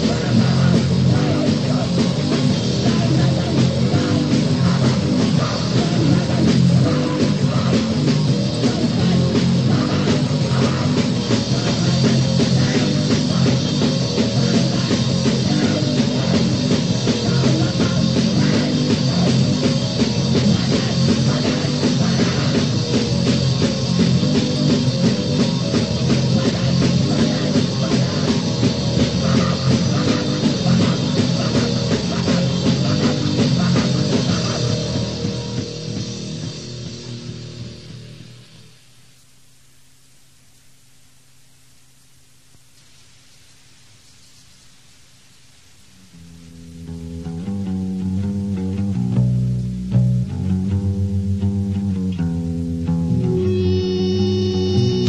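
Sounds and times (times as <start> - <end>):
loud punk music: 0.0 - 38.7, 46.2 - 55.0.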